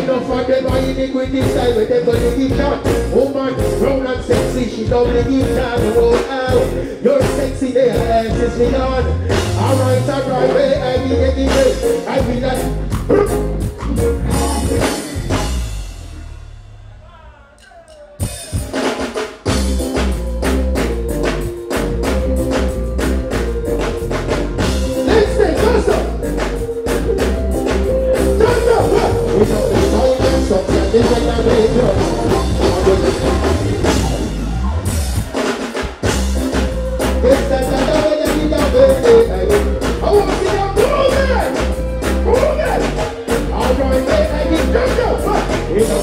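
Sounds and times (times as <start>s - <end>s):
guitar: 0.0s - 16.7s, 18.2s - 46.0s
keyboard: 0.0s - 16.9s, 17.6s - 46.0s
drum kit beat: 0.0s - 46.0s.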